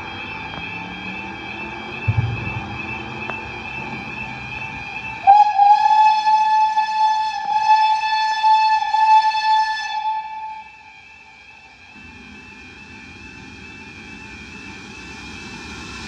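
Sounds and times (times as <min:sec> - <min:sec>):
steam locomotive whistle: 0:00.0 - 0:14.7
crossing warning alarm: 0:00.0 - 0:16.0.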